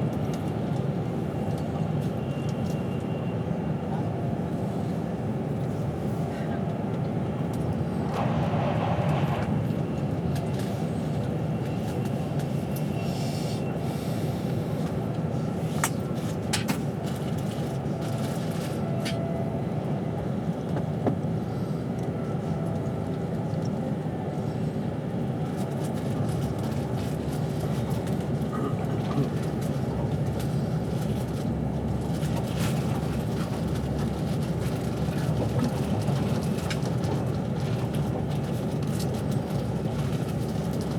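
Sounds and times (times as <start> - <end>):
train rumbling at speed: 0.0 - 40.9.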